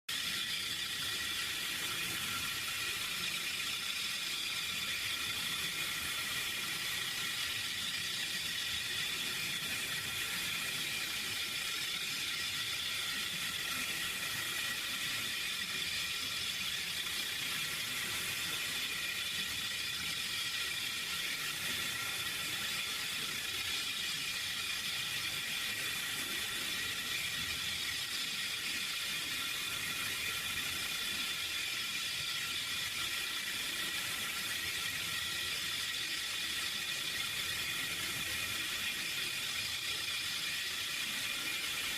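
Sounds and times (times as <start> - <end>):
synthetic hiss: 0.2 - 41.9.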